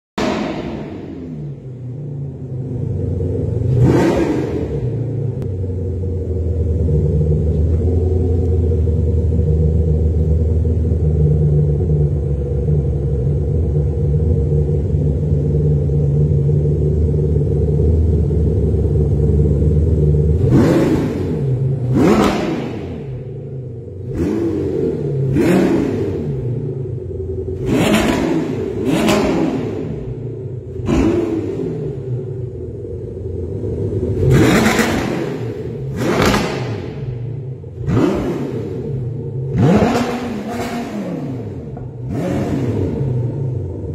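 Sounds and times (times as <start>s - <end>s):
car engine idling: 0.2s - 43.9s
engine revving: 0.2s - 43.9s.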